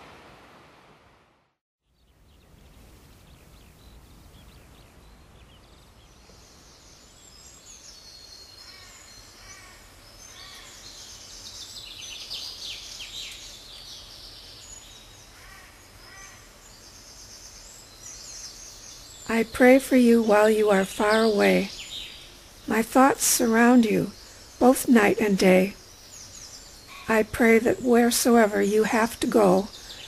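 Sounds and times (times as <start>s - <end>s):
birds chirping and trilling: 1.9s - 30.0s.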